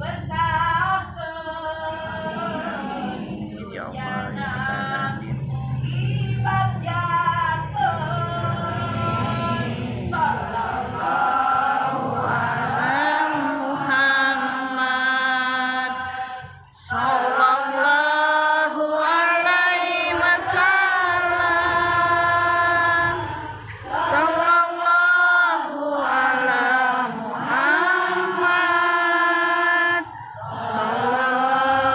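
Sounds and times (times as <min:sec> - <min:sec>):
unaccompanied singing: 0:00.0 - 0:31.9.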